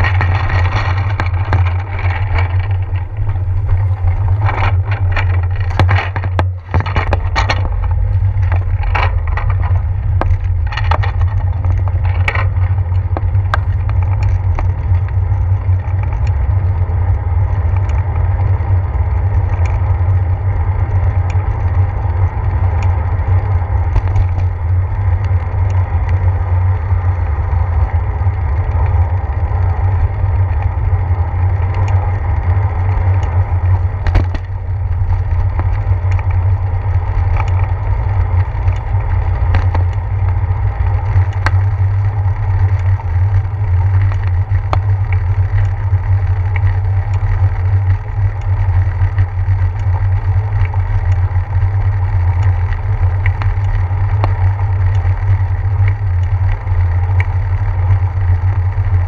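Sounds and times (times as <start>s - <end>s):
clicks and rattles from bumps: 0.0s - 59.0s
wind and road rumble: 0.0s - 59.0s.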